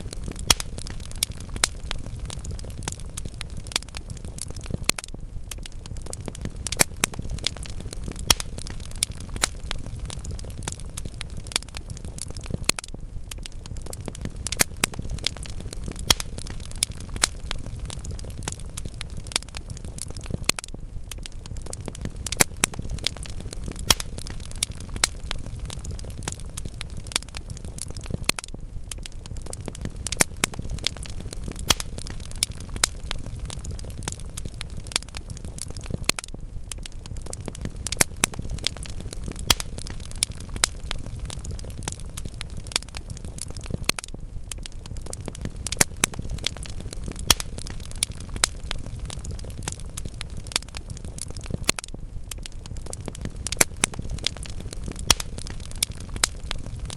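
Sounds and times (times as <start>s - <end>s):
fire rumbling: 0.0s - 56.9s
logs crackling and popping: 0.0s - 56.9s.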